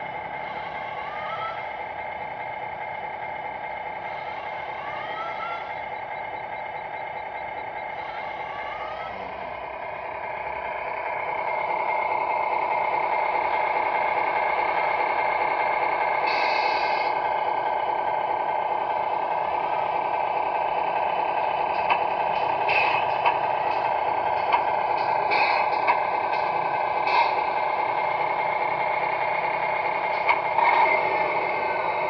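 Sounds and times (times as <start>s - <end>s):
electronic diesel engine sound: 0.0s - 32.0s.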